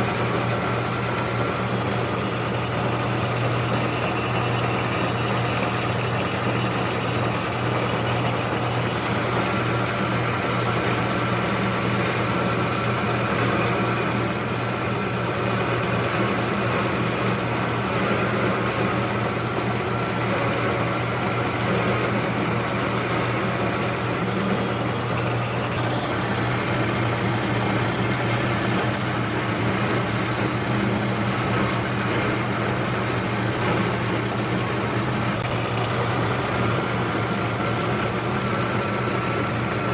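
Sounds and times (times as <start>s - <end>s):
lathe cutting metal: 0.0s - 39.9s
metal lathe motor hum: 0.0s - 39.9s.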